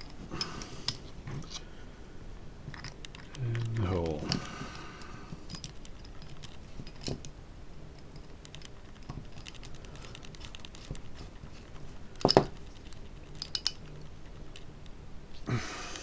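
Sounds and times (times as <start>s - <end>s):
small parts clicking and tapping: 0.0s - 1.7s, 2.6s - 15.0s.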